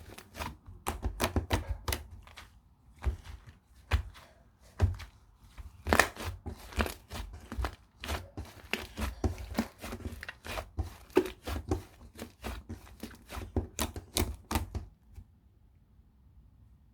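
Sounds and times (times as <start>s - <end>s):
slime squished by hand: 0.0s - 14.7s.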